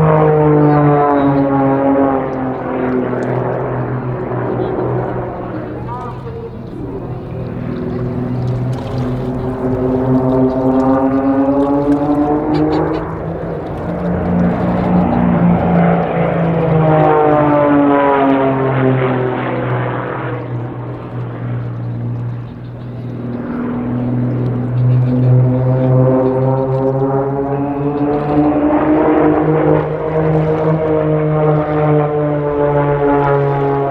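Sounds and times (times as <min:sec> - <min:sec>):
propeller aircraft flying past: 0:00.0 - 0:33.9.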